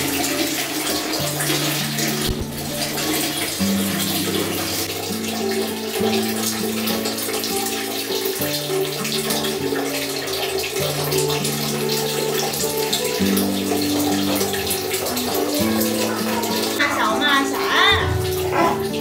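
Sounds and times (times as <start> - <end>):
running water: 0.0 - 19.0
soft background music: 0.0 - 19.0.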